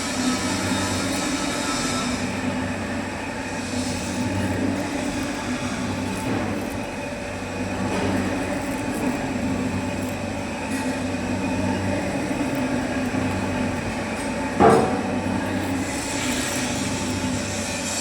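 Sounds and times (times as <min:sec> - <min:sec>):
lathe humming: 0:00.0 - 0:18.0
lathe squeal: 0:00.0 - 0:18.0.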